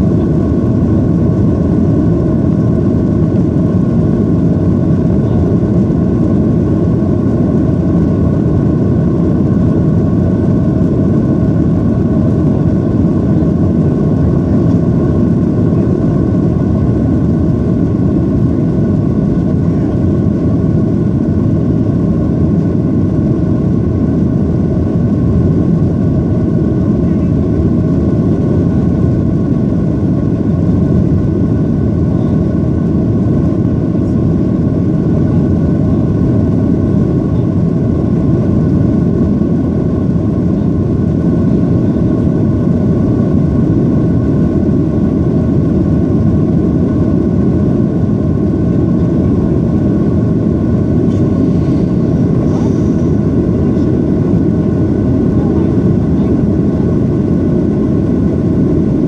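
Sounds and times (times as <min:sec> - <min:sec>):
faint steady whining tones: 0:00.0 - 0:59.0
jet engine and airflow rumble: 0:00.0 - 0:59.0.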